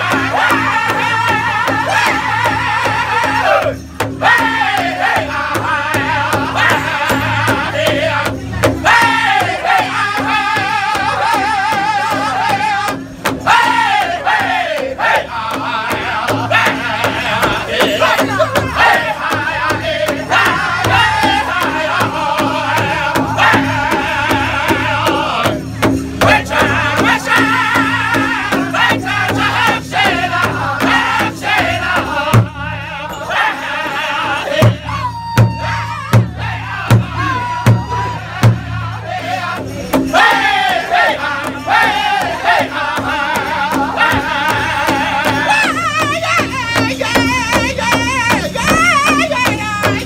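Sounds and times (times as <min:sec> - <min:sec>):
group singing in unison: 0:00.0 - 0:50.0
large hide drum beating: 0:00.0 - 0:50.0.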